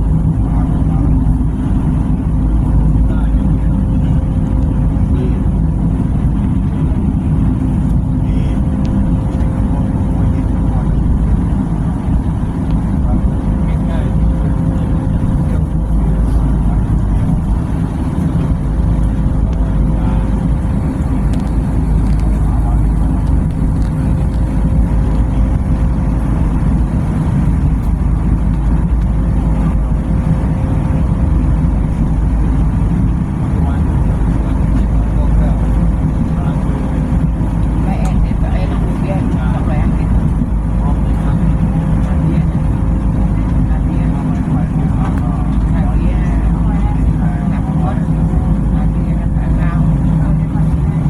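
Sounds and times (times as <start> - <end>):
faint constant hum: 0.0 - 51.0
train rumble inside carriage: 0.0 - 51.0.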